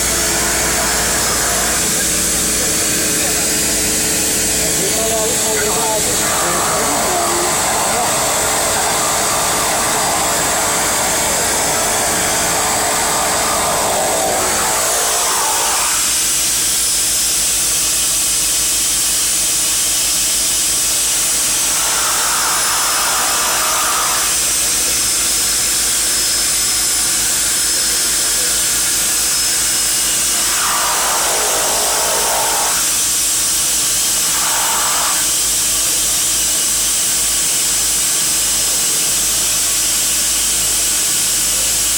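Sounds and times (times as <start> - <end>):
turboprop engine whine: 0.0 - 41.9.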